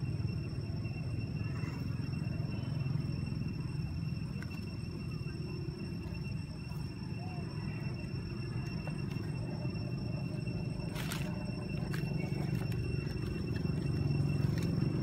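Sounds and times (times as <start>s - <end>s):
high-pitched insect drone: 0.0s - 15.0s
steady low rumble: 0.0s - 15.0s.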